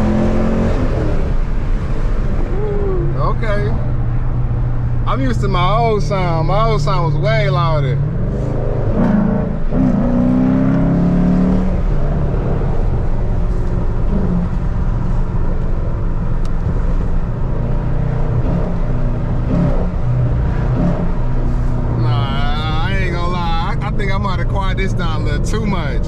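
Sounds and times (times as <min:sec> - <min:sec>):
car exhaust drone: 0:00.0 - 0:26.0.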